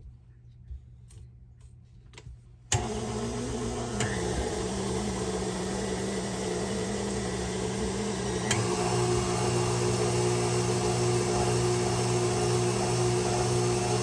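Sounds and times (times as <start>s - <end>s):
stand mixer motor running: 2.8s - 14.0s.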